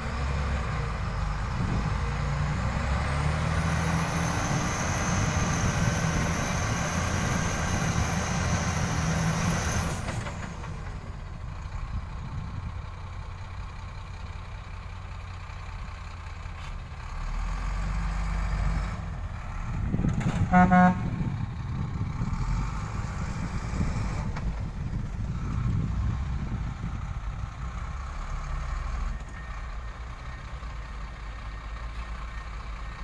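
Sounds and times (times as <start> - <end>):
truck diesel engine running: 0.0 - 33.0.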